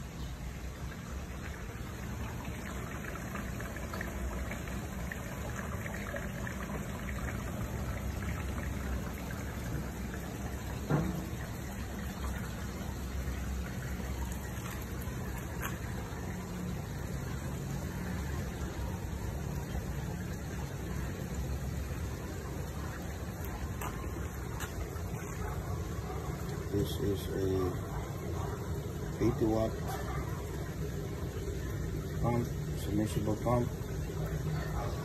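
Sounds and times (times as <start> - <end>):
water running into plastic drum: 0.5 - 35.0.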